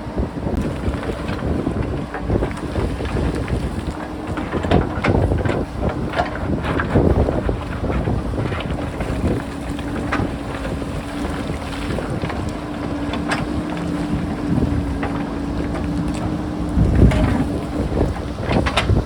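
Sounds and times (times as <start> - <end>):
diesel engine running under load: 0.0 - 19.0
wind buffeting microphone: 0.0 - 19.0.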